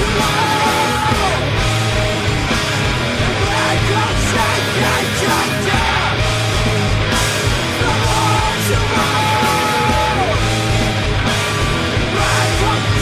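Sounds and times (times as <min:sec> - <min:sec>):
instrumental heavy rock band: 0:00.0 - 0:13.0.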